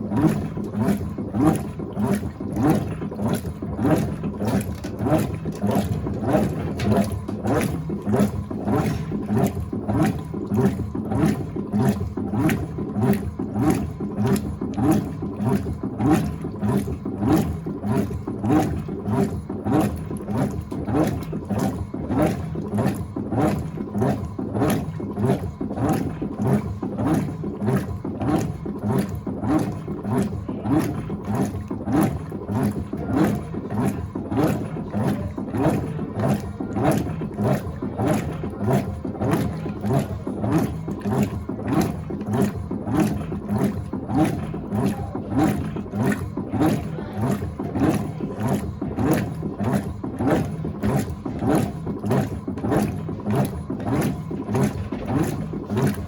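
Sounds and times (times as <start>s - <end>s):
washing machine agitator swishing: 0.0s - 56.0s.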